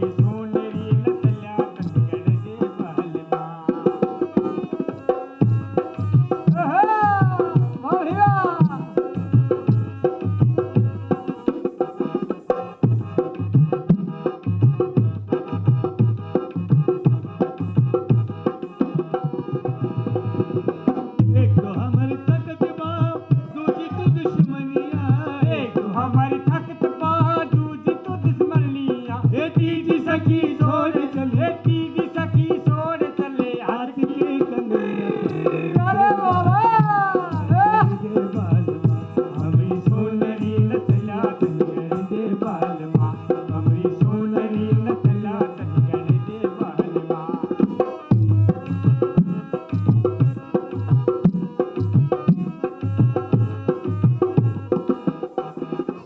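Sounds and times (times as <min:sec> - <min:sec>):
hand drums beating: 0:00.0 - 0:56.0.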